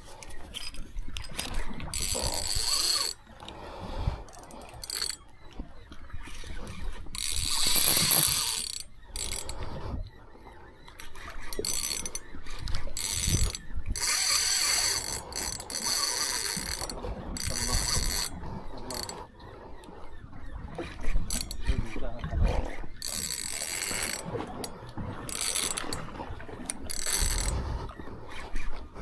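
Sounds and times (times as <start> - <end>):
fishing reel whirring and ratcheting: 0.2 - 3.4, 4.2 - 9.8, 10.8 - 19.3, 20.4 - 24.3, 25.3 - 27.6.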